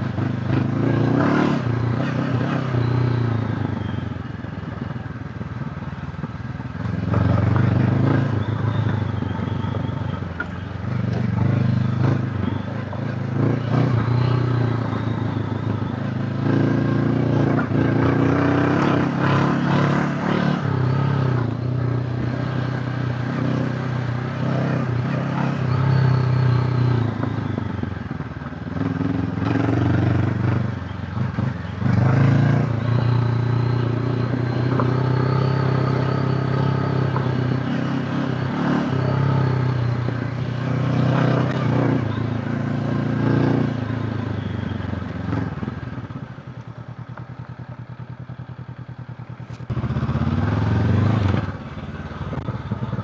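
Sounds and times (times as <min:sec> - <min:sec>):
motorcycle engine revving: 0:00.0 - 0:04.4, 0:06.6 - 0:53.0.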